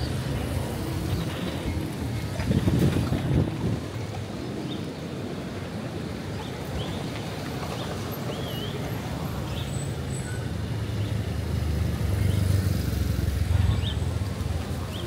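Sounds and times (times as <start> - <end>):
low rumble of passing traffic: 0.0 - 15.0.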